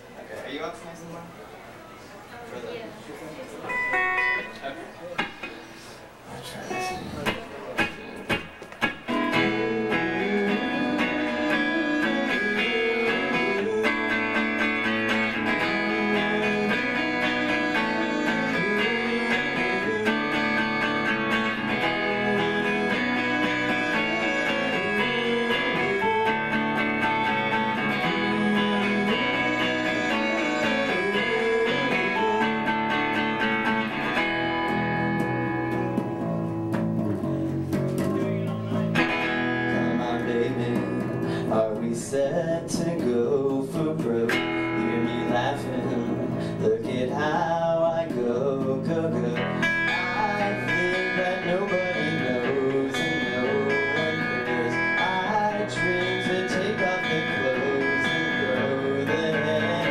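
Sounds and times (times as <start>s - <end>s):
guitar playing: 3.6s - 59.9s.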